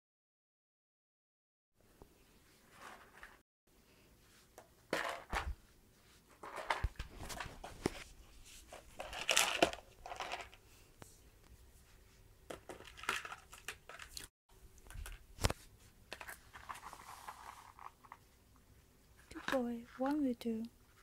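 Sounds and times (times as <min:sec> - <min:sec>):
rustling and crinkling: 0:02.1 - 0:03.4, 0:04.2 - 0:21.0.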